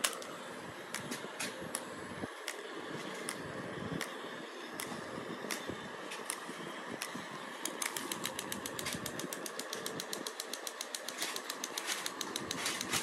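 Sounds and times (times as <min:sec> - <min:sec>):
toy motor clicking rapidly: 0:02.4 - 0:13.0.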